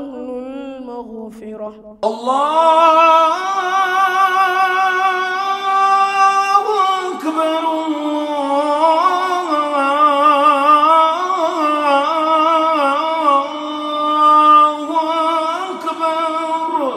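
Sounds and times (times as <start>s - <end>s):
person singing ornamented melody: 0.0s - 16.9s.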